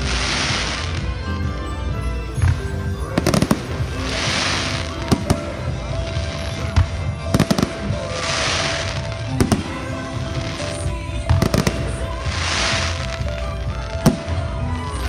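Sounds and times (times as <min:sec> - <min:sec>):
fireworks bangs: 0:00.0 - 0:15.0
fireworks hissing fizz: 0:00.0 - 0:15.0.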